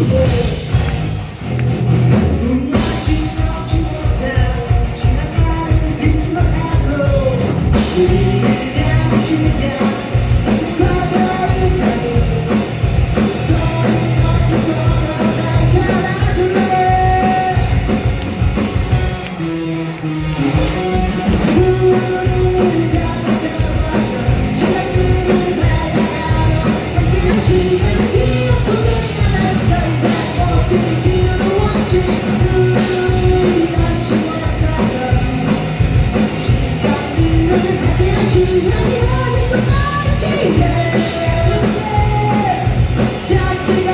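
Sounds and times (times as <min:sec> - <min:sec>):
person singing: 0:00.0 - 0:01.0, 0:02.2 - 0:19.6, 0:20.2 - 0:43.9
fast drumbeat: 0:00.0 - 0:43.9
rock band playing live: 0:00.0 - 0:43.9.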